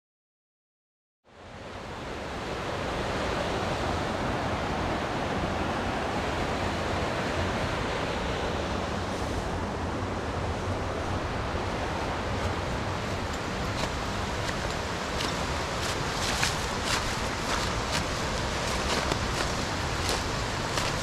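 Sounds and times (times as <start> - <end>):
water rushing in a gorge: 1.4 - 21.0.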